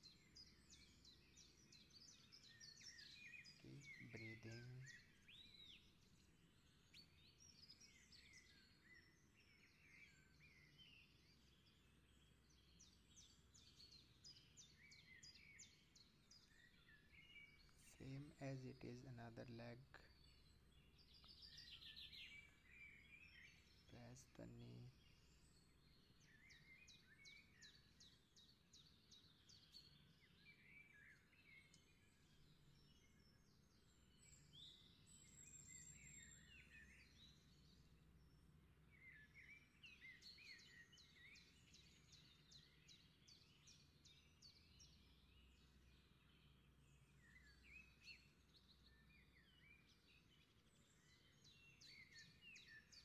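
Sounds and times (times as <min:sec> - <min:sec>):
faint birdsong chirps and trills: 0:00.0 - 0:53.0.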